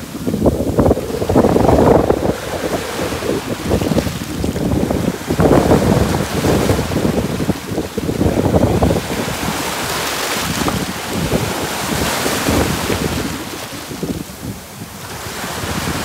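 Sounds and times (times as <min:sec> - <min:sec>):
waves washing over pebbles: 0:00.0 - 0:16.0
wind buffeting microphone: 0:00.0 - 0:16.0.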